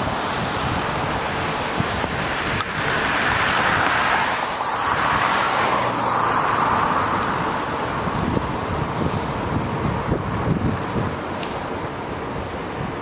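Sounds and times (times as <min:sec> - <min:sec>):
car tyres hissing on wet road: 0:00.0 - 0:13.0
road noise: 0:00.0 - 0:13.0
wind: 0:00.0 - 0:13.0.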